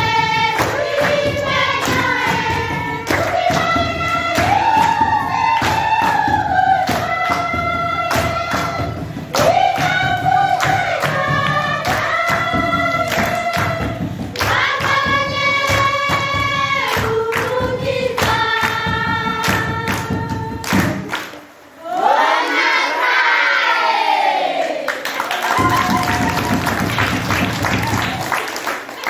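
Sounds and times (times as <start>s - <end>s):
women and children singing: 0.0s - 24.8s
hands clapping: 0.4s - 21.5s, 24.9s - 29.0s.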